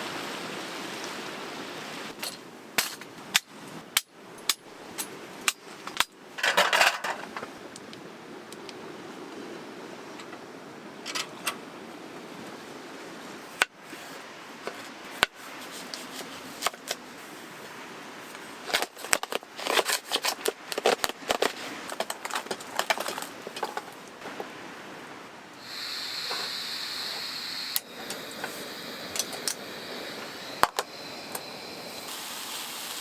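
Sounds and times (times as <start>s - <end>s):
steady low hiss: 0.0s - 33.0s.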